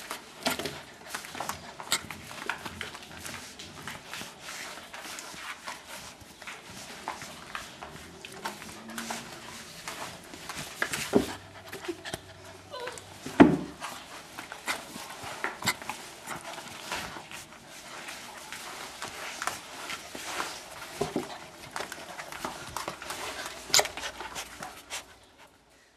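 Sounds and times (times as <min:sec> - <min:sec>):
dog scuffing on parquet floor: 0:00.0 - 0:25.5.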